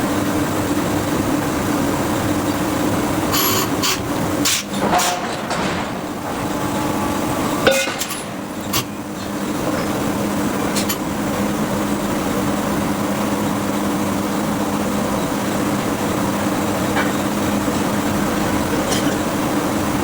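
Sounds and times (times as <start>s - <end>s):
machinery low hum: 0.0s - 20.0s.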